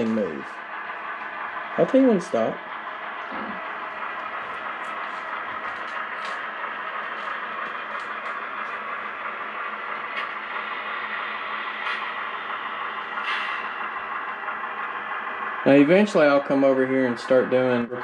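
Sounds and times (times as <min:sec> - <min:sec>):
model train humming and rolling: 0:00.0 - 0:18.0.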